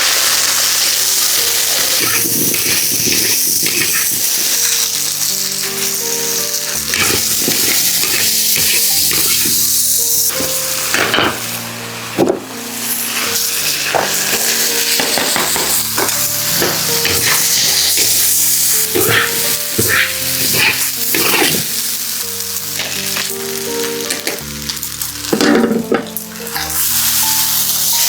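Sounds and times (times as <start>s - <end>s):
food sizzling in a pan: 0.0s - 28.0s
background music: 0.3s - 28.0s.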